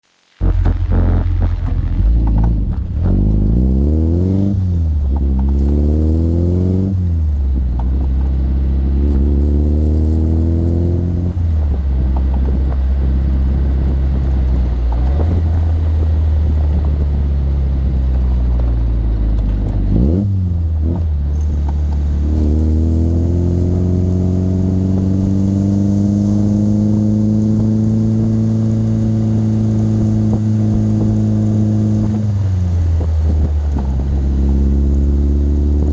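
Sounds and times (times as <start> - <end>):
car engine revving through gears: 0.4 - 35.9.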